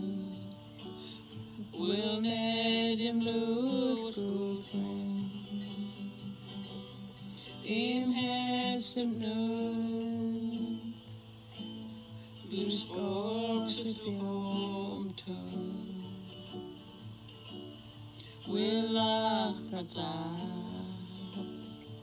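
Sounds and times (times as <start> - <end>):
women singing a slow hymn: 0.0 - 6.7, 7.4 - 11.3, 12.4 - 16.9, 18.2 - 22.0.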